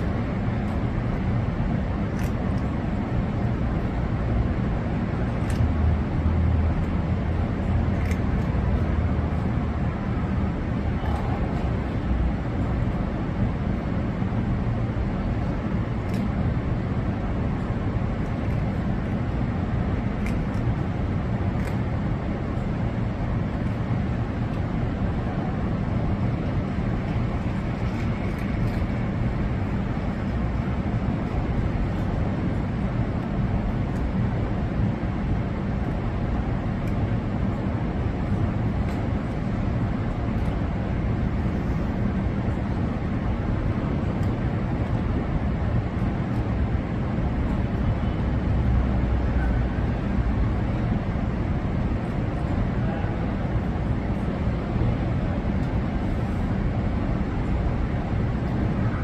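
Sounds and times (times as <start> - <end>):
low background rumble: 0.0 - 59.0.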